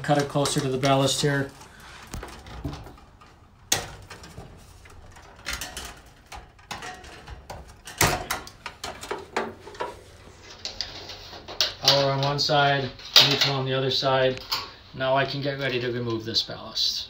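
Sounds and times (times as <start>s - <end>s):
wires rustling: 0.0s - 16.3s.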